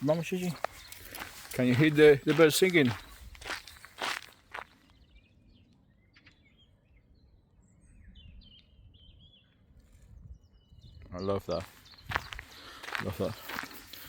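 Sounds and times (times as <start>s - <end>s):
birds chirping and trilling: 0.0s - 14.0s.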